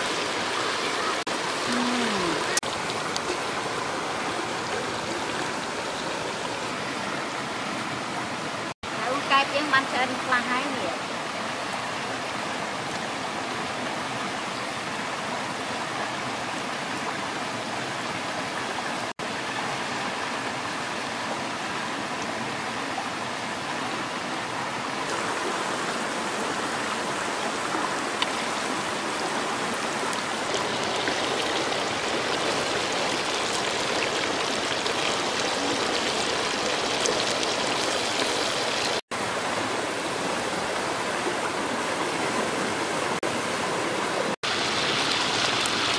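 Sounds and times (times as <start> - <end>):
stream water over rocks: 0.0 - 45.9.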